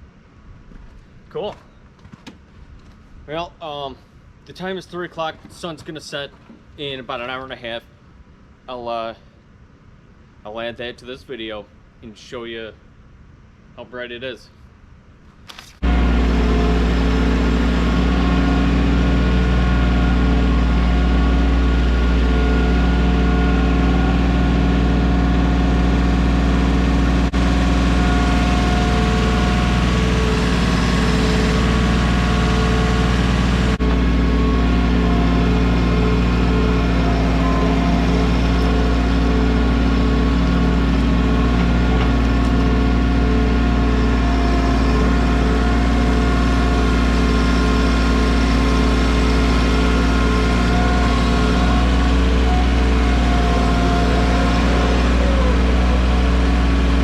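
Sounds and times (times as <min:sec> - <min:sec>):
tractor diesel engine running: 0:00.0 - 0:09.0, 0:15.8 - 0:57.0.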